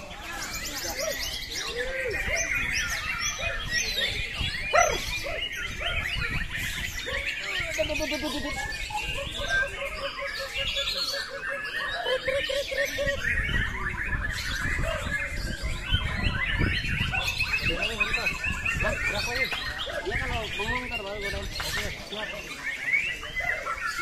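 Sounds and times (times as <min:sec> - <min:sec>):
caged songbirds singing: 0:00.0 - 0:24.0.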